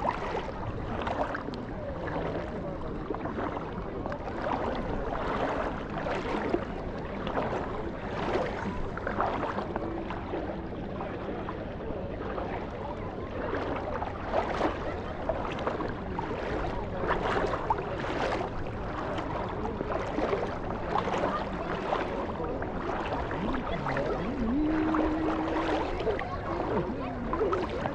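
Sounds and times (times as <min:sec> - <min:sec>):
seawater washing and splashing: 0:00.0 - 0:27.9.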